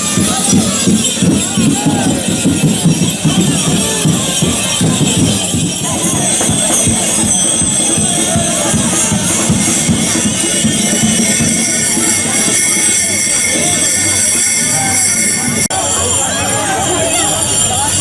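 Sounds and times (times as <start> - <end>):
crowd talking and calling: 0.0 - 18.0
jingling rattling sound: 0.0 - 18.0
music: 0.0 - 18.0.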